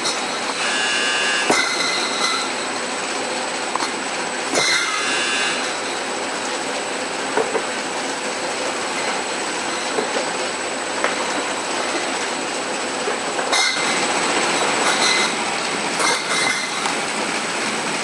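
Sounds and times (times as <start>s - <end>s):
conveyor belt mechanical rushing: 0.0s - 18.0s.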